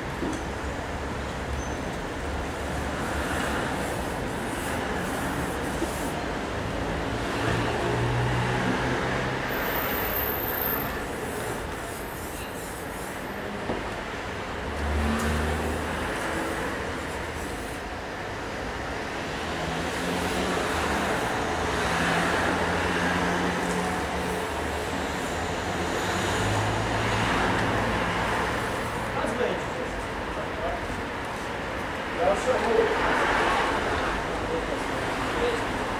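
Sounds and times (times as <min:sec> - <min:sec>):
cars passing by: 0:00.0 - 0:35.9.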